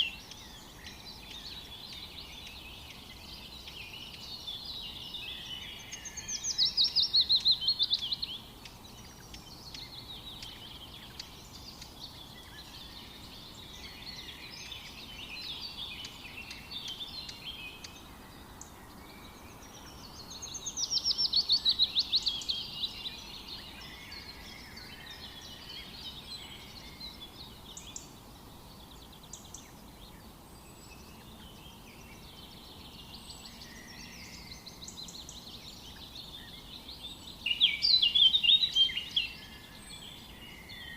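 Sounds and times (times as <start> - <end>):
birds chirping and singing: 0.0 - 40.9
faint background hiss: 0.0 - 40.9.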